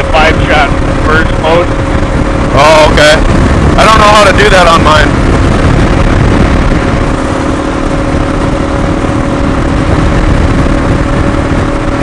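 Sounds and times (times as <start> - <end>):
wind rumble: 0.0 - 12.0.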